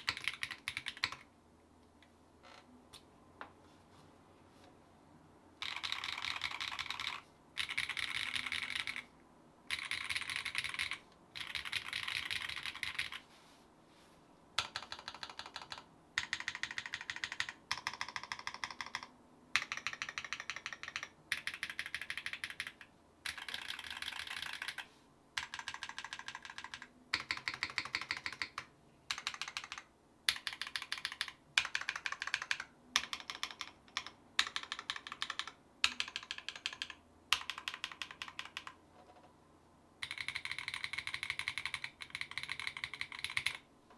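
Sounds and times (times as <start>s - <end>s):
mechanical keyboard typing: 0.0s - 1.3s, 5.6s - 9.1s, 9.7s - 13.2s, 14.6s - 39.3s, 40.0s - 43.6s.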